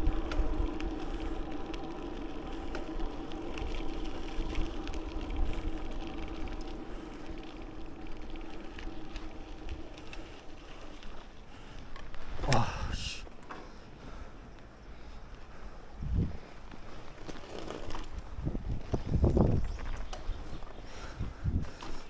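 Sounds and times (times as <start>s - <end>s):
wind rumbling on microphone: 0.0s - 11.3s, 15.5s - 22.0s.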